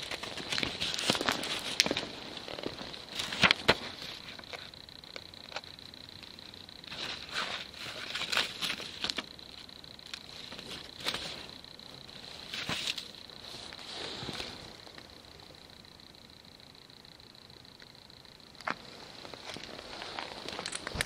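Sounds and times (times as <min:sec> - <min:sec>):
faint high-pitched whine: 0:00.0 - 0:21.0.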